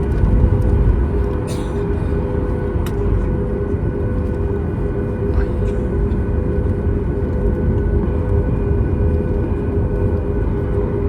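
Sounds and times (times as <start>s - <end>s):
airplane engines rumbling: 0.0s - 11.0s
multi-tone engine hum: 0.0s - 11.0s.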